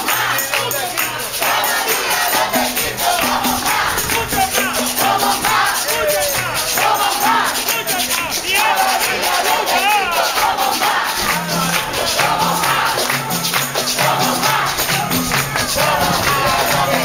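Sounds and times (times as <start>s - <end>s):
crowd singing and calling: 0.0s - 17.0s
frame drums beating: 0.0s - 17.0s.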